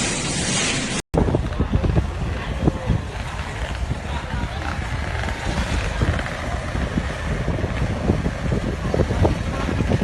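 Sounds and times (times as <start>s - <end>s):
two-stroke motorcycle engines popping: 1.2s - 10.0s
wind buffeting microphone: 1.2s - 10.0s.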